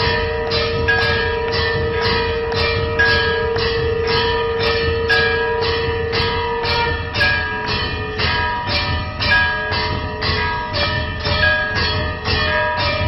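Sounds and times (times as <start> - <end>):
continuous steady drone: 0.0 - 13.0
temple bells clanging: 0.0 - 13.0.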